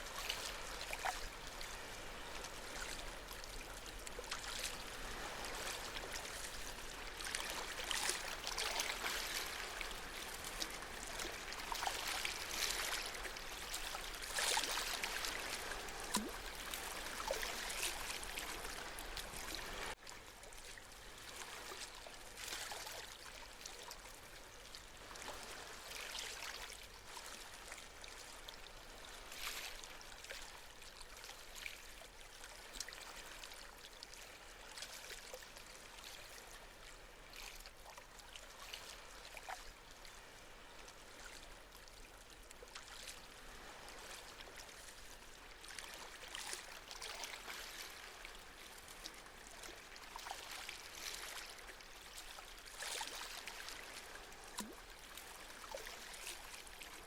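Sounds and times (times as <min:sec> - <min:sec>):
gentle sea waves washing: 0:00.0 - 0:57.0.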